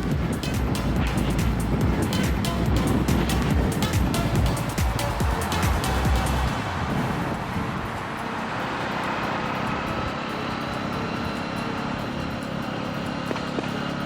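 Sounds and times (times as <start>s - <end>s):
road noise: 0.0s - 14.0s
vehicle engine: 0.0s - 14.0s.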